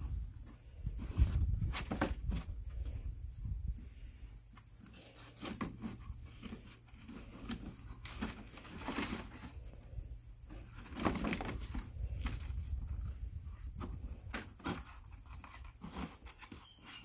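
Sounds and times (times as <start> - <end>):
cardboard rustling and scraping: 0.0 - 17.0.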